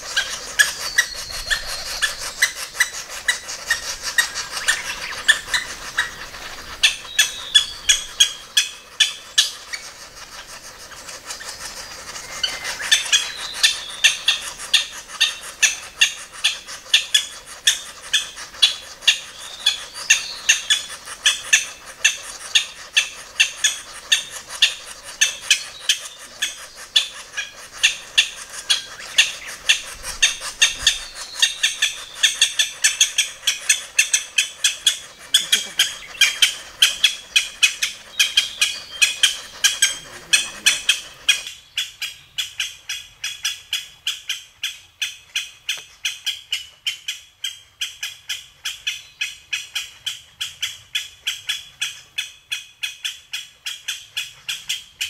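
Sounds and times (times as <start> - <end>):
woodpecker chicks begging calls: 0.0 - 55.0.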